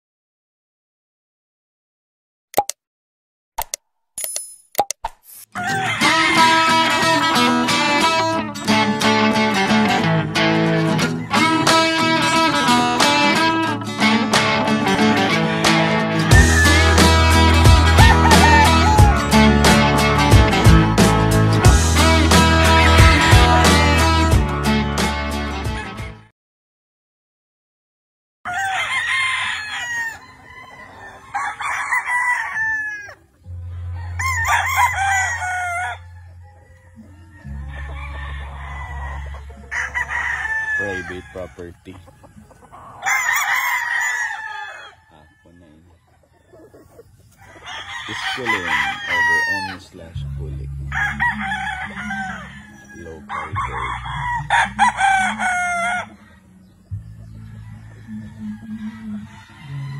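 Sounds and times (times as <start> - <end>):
roosters crowing: 5.5 - 26.2, 28.5 - 59.9.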